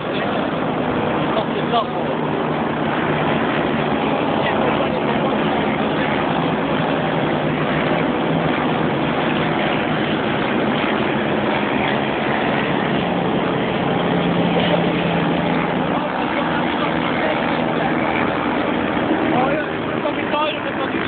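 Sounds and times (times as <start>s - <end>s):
many racing engines running: 0.0s - 21.0s.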